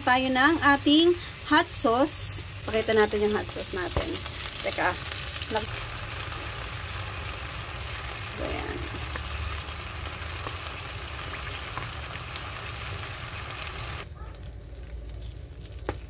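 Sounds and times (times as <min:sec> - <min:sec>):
oil sizzling in a wok: 0:00.0 - 0:16.0.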